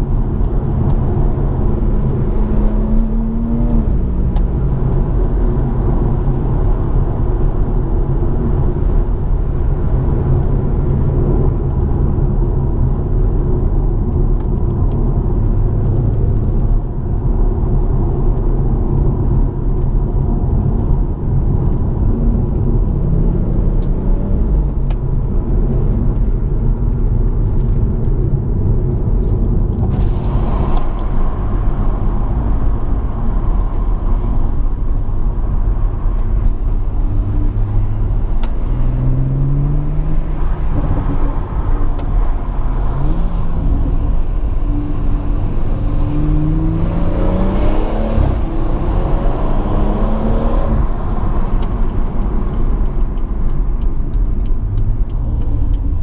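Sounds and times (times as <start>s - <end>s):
car engine low rumble: 0.0s - 56.0s
road noise: 0.0s - 56.0s.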